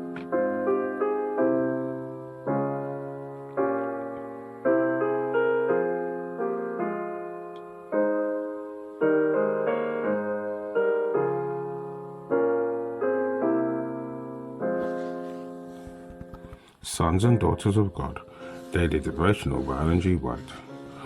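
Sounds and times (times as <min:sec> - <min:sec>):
slow solo piano chords: 0:00.0 - 0:19.8.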